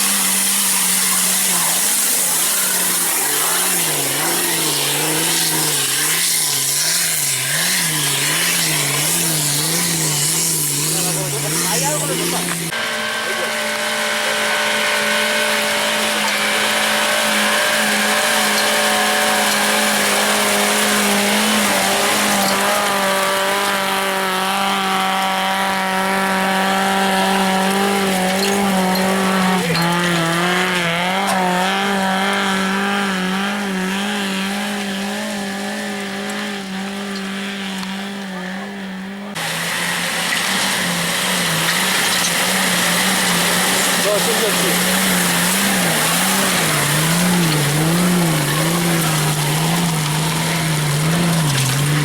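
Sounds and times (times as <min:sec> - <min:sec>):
off-road engine at high revs: 0:00.0 - 0:52.0.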